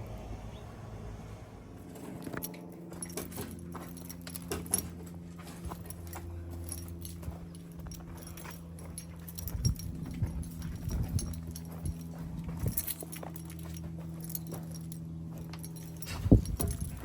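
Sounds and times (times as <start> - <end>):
machine engine running: 0.0 - 17.0
metallic clinks of tools: 2.2 - 17.0.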